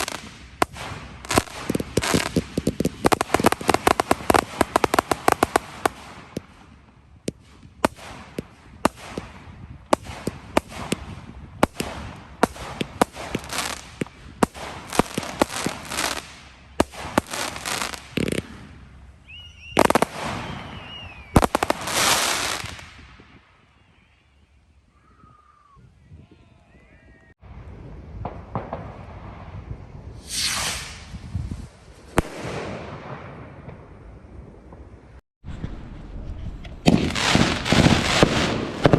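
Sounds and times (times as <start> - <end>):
fireworks bangs: 0.0 - 23.5, 28.1 - 38.9
fireworks crackling: 0.0 - 23.5, 27.7 - 34.9, 35.5 - 38.9.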